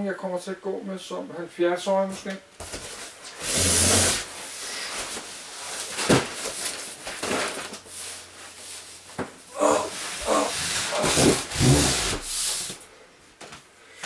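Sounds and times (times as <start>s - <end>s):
rustling of clothes and bags: 2.2s - 13.6s.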